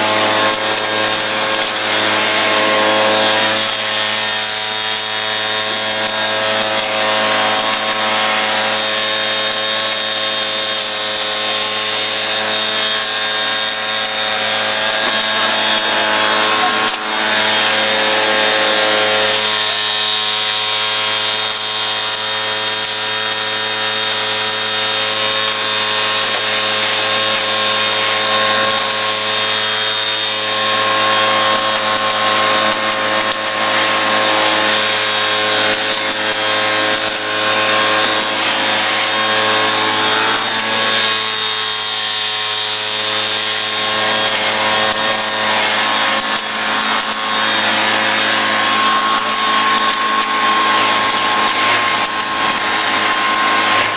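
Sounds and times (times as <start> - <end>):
cotton picker motor humming: 0.0 - 53.9.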